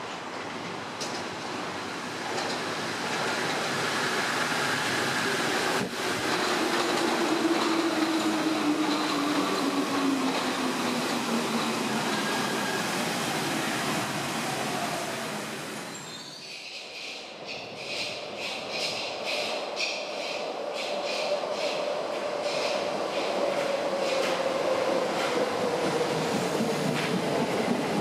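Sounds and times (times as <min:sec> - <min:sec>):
metro train passing: 0:00.0 - 0:28.0.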